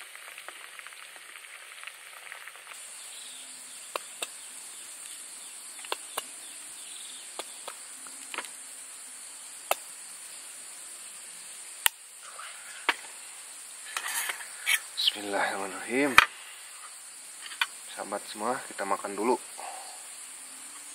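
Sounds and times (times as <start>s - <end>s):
insects droning: 0.0s - 20.9s.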